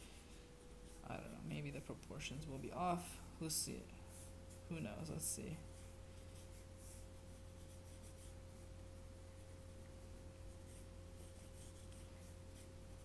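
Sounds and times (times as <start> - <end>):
faint steady hum: 0.0 - 13.0
pencil scratching on paper: 0.0 - 13.0.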